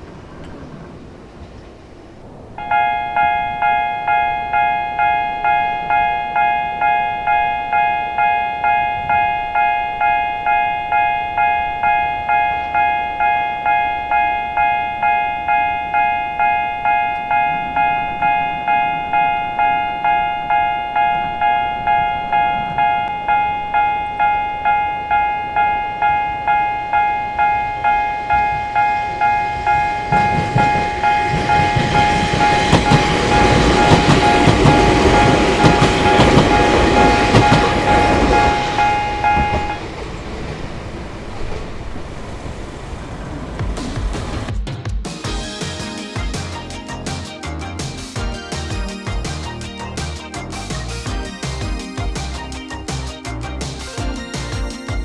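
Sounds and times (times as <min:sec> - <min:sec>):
level-crossing alarm clanging: 0:00.0 - 0:44.5, 0:45.3 - 0:55.0.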